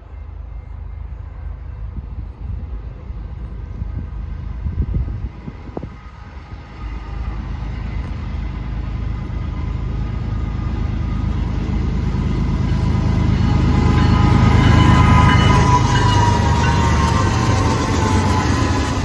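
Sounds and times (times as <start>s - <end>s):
diesel locomotives rumbling: 0.0s - 19.0s.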